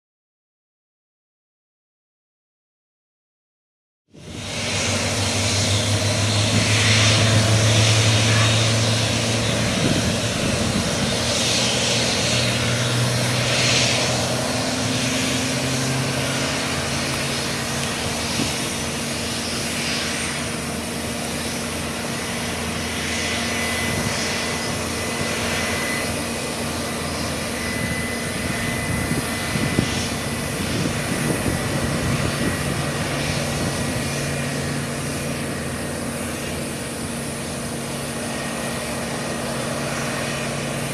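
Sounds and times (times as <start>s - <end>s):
jet engines running: 4.1s - 40.9s.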